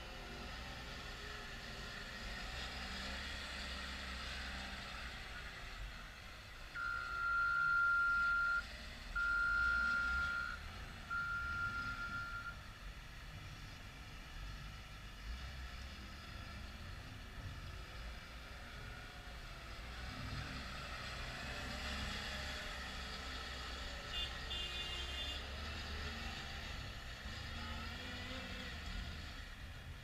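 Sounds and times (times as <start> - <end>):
wheel loader diesel engine: 0.0 - 30.0.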